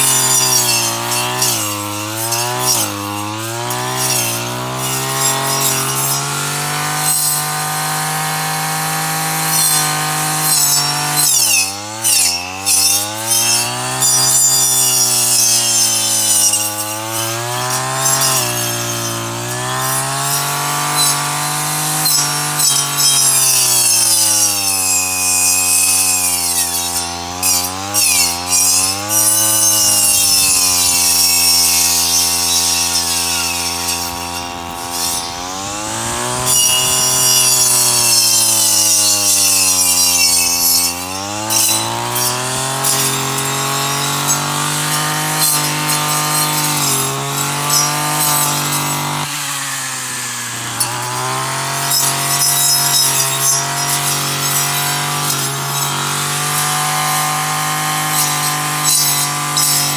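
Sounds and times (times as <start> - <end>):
brush cutter engine: 0.0 - 59.9.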